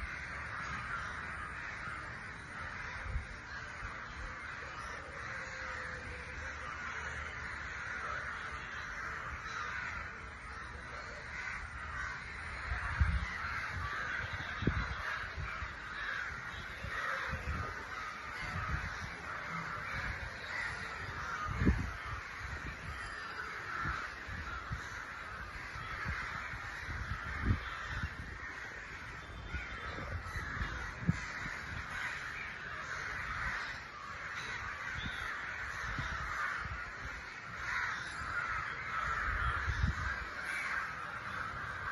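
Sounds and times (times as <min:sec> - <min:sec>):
crows cawing: 0:00.0 - 0:41.9.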